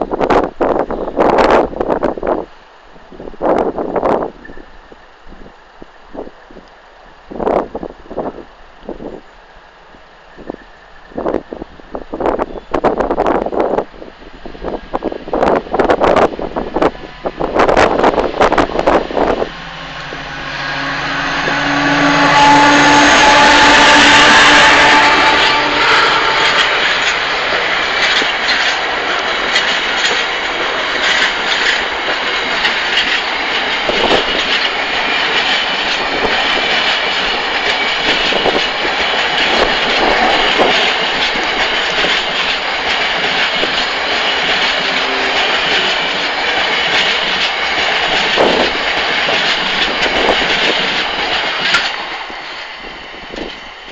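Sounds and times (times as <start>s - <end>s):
steel wheels rumbling on rail: 0.0s - 53.9s.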